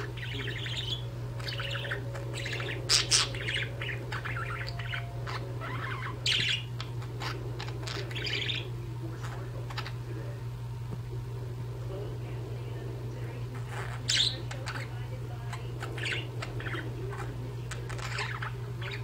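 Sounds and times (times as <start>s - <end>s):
budgerigars chirping and warbling: 0.0s - 10.4s, 13.2s - 19.0s
steady low hum: 0.0s - 19.0s.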